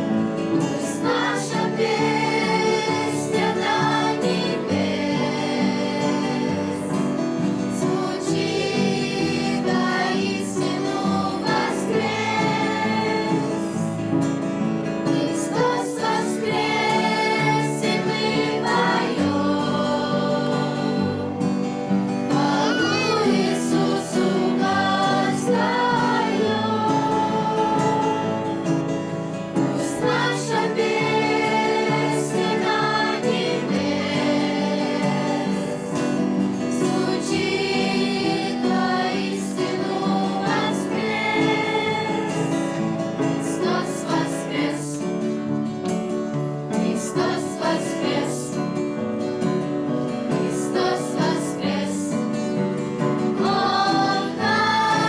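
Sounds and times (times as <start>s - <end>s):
group singing a hymn: 0.0s - 55.0s
instrumental accompaniment: 0.1s - 48.2s.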